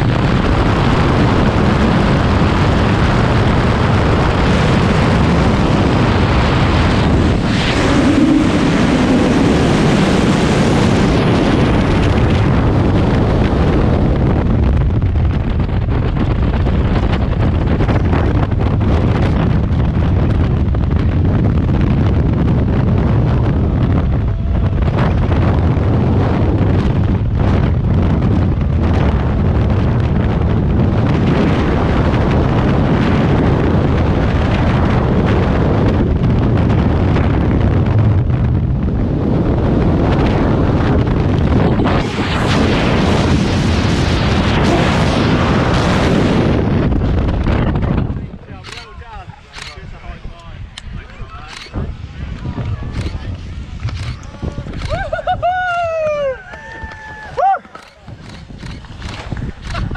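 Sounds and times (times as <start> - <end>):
freefall wind roaring on microphone: 0.0 - 59.9.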